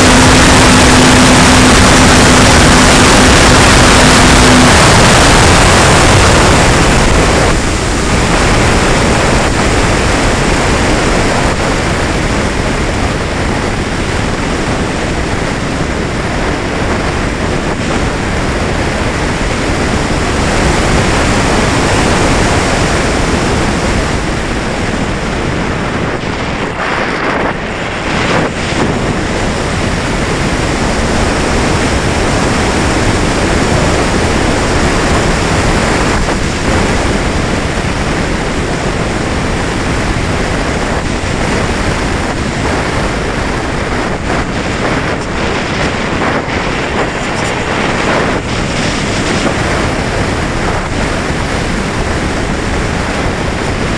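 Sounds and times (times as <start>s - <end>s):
air rushing over microphone: 0.0s - 53.9s.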